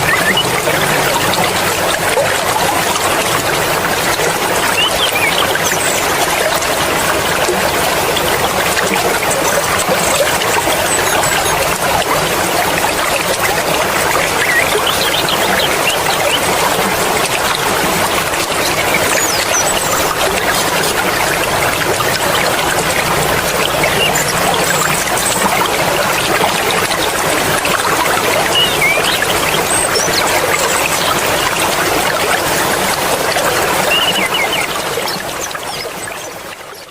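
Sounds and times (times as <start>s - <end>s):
stream water flowing and splashing: 0.0s - 36.9s.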